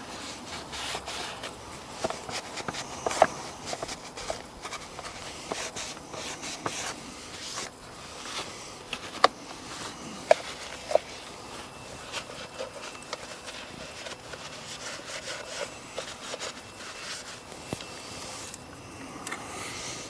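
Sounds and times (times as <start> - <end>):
rag rubbing on metal: 0.0 - 17.5.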